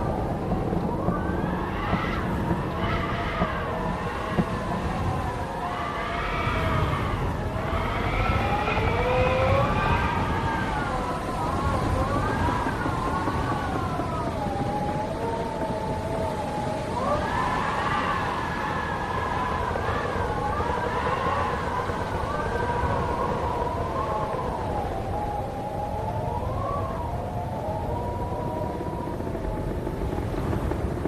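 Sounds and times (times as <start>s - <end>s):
wind howling: 0.0s - 31.0s.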